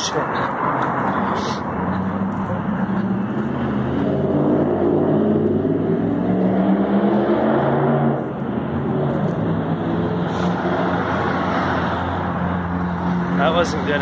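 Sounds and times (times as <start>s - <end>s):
vehicle engine passing by: 0.2s - 14.0s.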